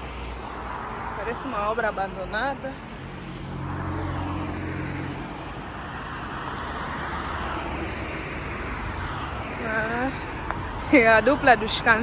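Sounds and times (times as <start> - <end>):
traffic road noise: 0.0 - 12.0
vehicle engine hum: 0.0 - 12.0.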